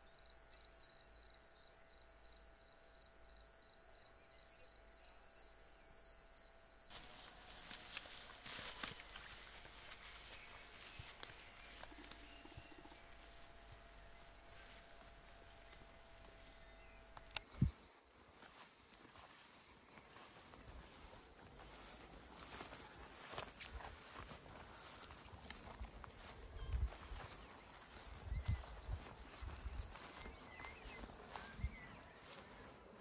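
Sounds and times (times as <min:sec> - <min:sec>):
insects chirring: 0:00.0 - 0:33.0.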